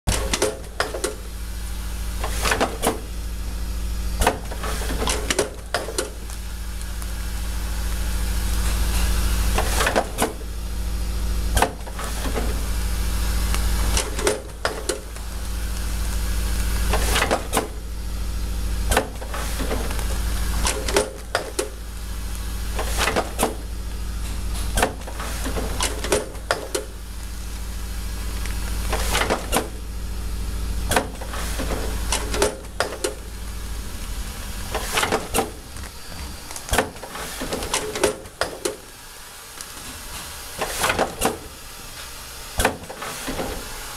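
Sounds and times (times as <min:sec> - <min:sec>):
machine hum: 0:00.1 - 0:43.9.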